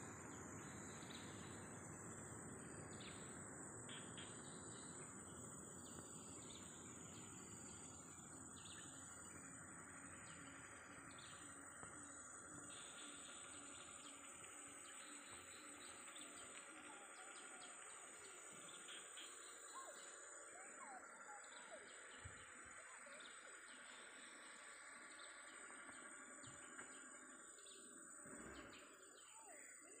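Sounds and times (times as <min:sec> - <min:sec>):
bird chirps: 0:02.8 - 0:24.2, 0:26.4 - 0:30.0.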